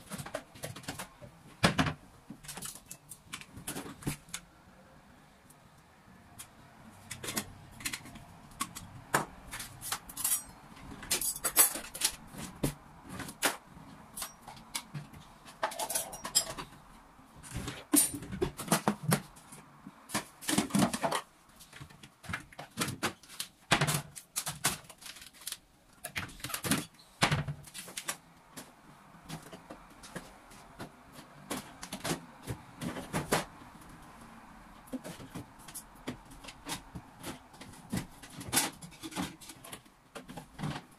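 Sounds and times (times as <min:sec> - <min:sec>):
household objects clattering: 0:07.0 - 0:34.1, 0:34.8 - 0:40.9.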